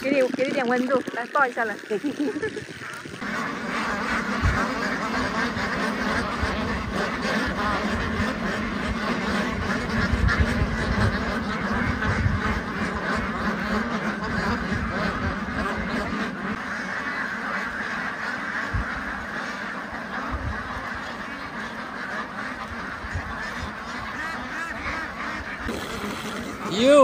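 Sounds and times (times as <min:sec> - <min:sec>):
ducks quacking: 0:00.0 - 0:27.0.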